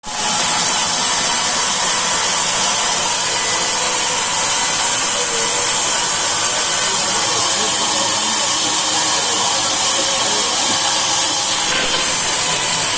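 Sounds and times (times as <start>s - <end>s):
sawmill saw hissing: 0.0s - 12.9s.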